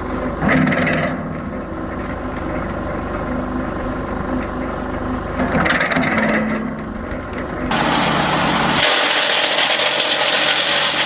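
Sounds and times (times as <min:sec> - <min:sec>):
wood chipper engine running: 0:00.0 - 0:11.0.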